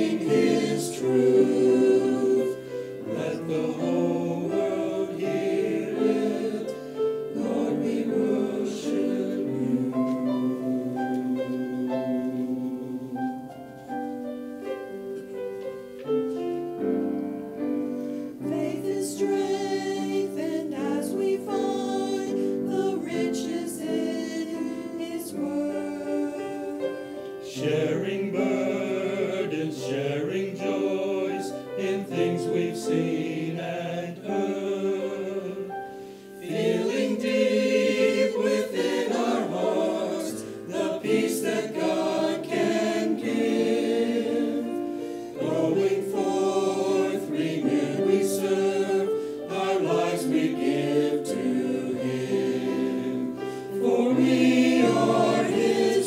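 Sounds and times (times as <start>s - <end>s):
choir singing: 0.0s - 15.4s, 16.1s - 56.0s.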